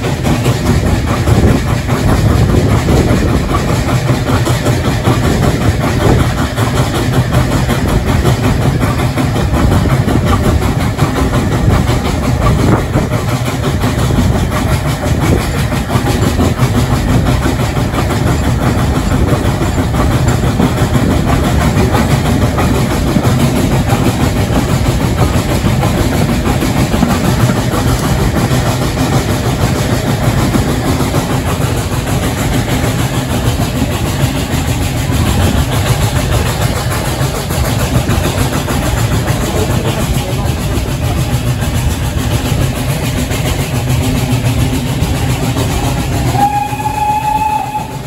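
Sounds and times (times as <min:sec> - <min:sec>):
train rumbling: 0:00.0 - 0:48.0.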